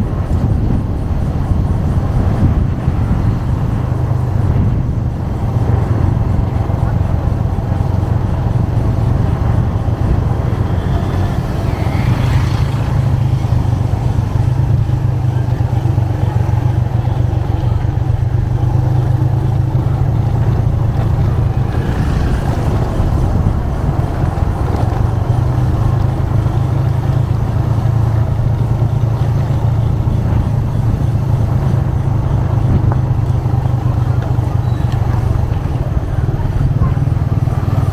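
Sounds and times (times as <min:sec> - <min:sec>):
motorcycle engine cruising: 0:00.0 - 0:37.9
road and traffic noise: 0:00.0 - 0:37.9.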